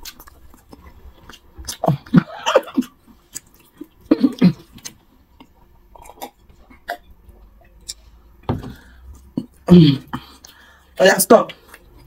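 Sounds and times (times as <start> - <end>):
chewing and wet mouth sounds: 0.0 - 12.0.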